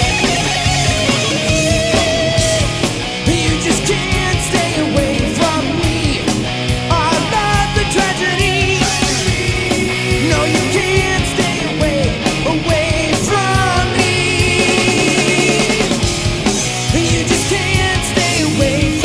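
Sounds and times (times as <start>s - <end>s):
bending lead guitar line: 0.0s - 19.0s
rock band playing: 0.0s - 19.0s.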